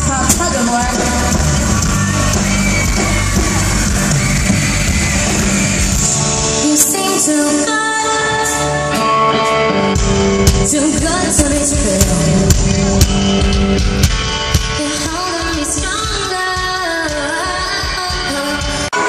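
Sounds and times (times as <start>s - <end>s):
live pop band playing: 0.0s - 19.0s.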